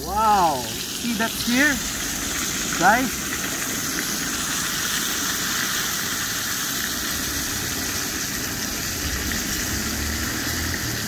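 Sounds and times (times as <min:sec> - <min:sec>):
steak sizzling in a frying pan: 0:00.0 - 0:11.0.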